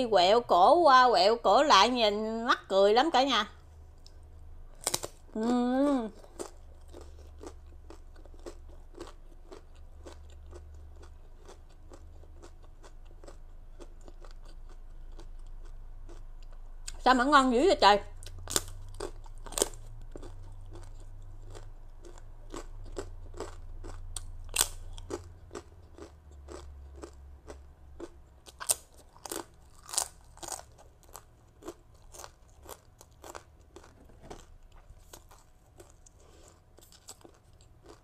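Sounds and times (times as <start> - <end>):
crunching crisp rice cracker: 4.0 - 17.0, 18.1 - 38.0.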